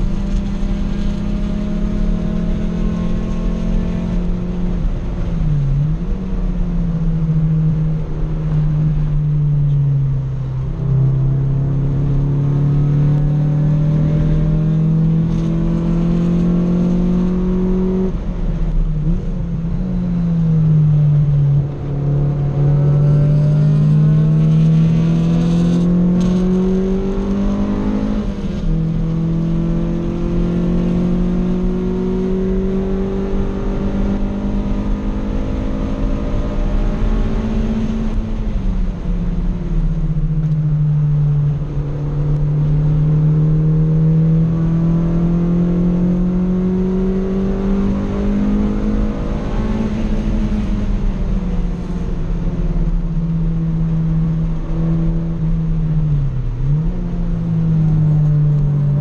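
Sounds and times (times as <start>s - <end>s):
car engine revving: 0.0s - 59.0s
tyre and road noise: 0.0s - 59.0s.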